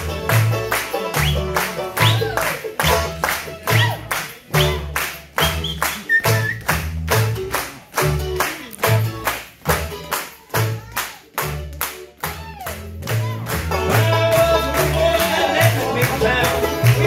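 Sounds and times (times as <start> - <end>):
bluegrass band playing fiddle tune: 0.0 - 17.0.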